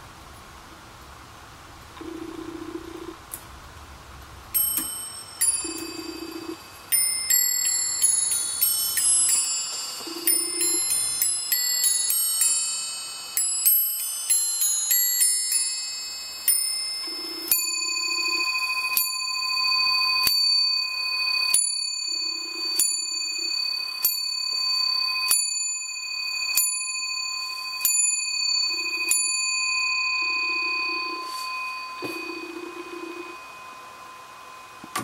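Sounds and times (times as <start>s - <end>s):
clock chiming tune on bells: 4.6s - 35.0s
clock striking on a bell: 4.6s - 35.0s.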